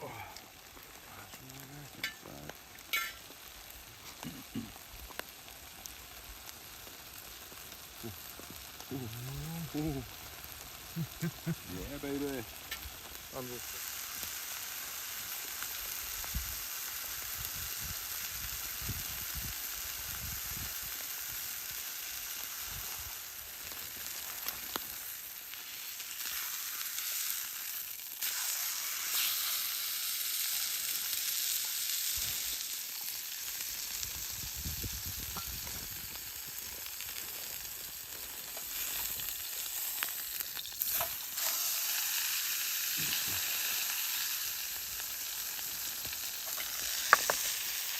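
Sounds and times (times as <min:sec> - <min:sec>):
food sizzling in frying pan: 0:00.0 - 0:47.9
small pops and crackles: 0:00.3 - 0:29.6, 0:30.4 - 0:41.8, 0:43.0 - 0:47.9.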